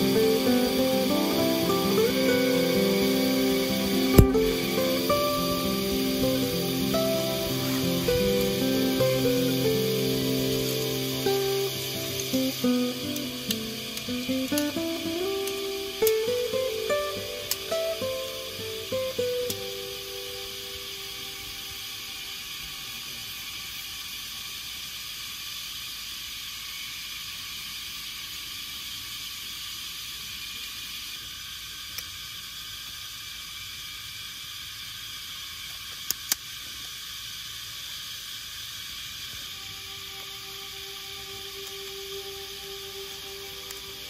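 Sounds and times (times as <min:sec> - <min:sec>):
outdoor hiss: 0:00.0 - 0:44.0.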